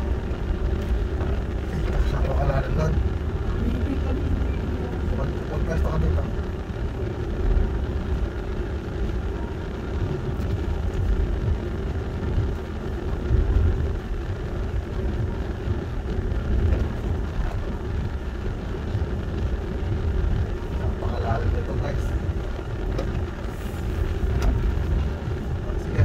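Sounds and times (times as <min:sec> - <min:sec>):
steady hum: 0:00.0 - 0:26.0
vehicle engine rumble: 0:00.0 - 0:26.0.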